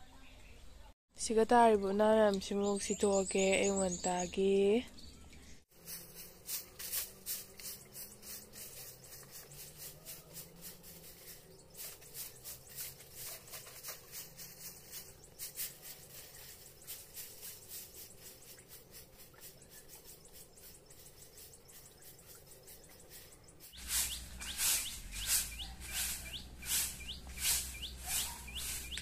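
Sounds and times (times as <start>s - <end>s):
straw broom sweeping ground: 5.7s - 29.0s.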